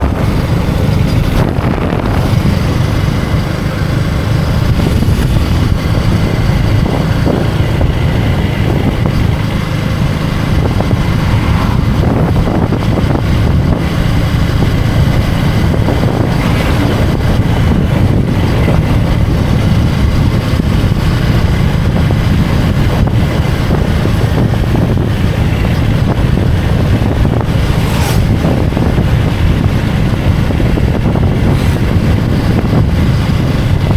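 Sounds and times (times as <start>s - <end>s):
motorcycle engine running: 0.0s - 33.9s
wind rumble on microphone: 0.0s - 33.9s.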